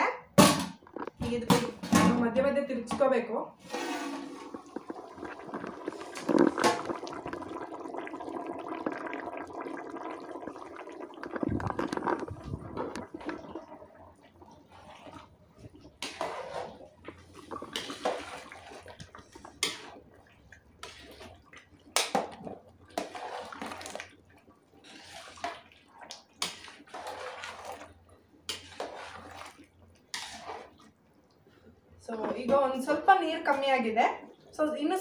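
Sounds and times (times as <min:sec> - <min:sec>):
water boiling in a pot: 0:00.7 - 0:35.0
ladle sloshing and scraping: 0:03.6 - 0:32.4.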